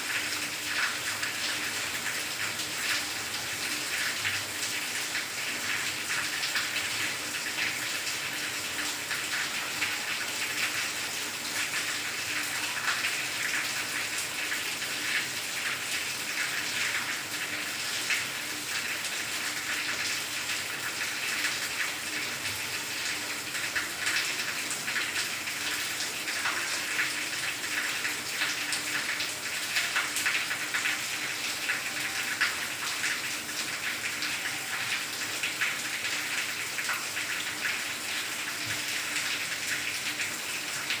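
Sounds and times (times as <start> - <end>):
rain on leafy plants: 0.0 - 41.0.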